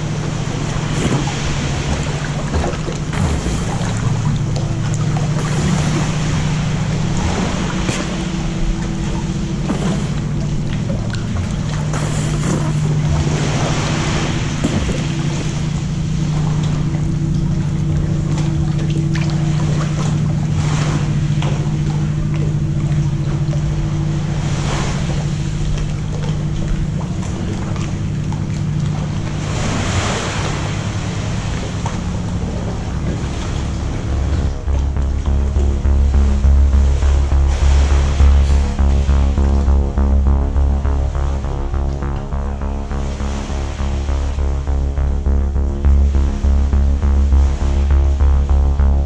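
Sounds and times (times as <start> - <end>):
sea water sloshing and splashing: 0.0 - 49.0
steady low hum: 0.0 - 49.0.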